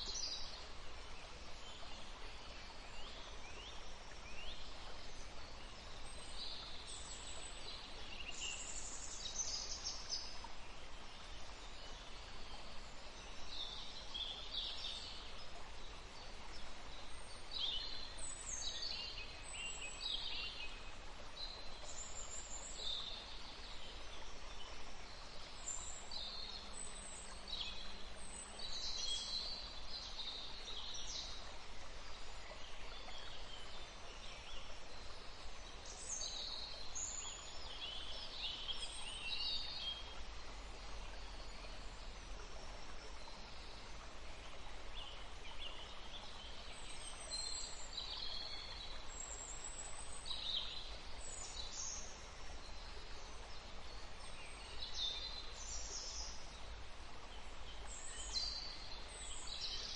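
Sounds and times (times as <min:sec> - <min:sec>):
faint steady hiss: 0:00.0 - 0:59.9
songbirds chirping: 0:00.0 - 0:59.9.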